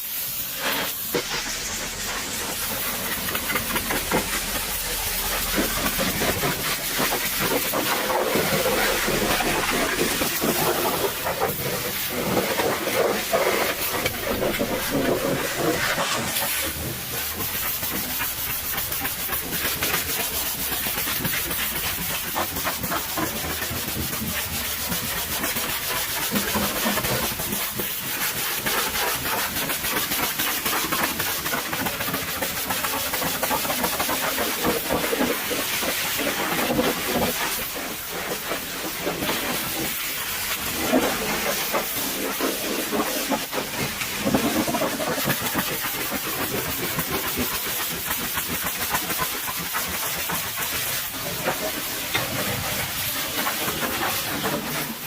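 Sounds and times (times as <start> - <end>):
pressure washer spraying water: 0.0 - 55.0.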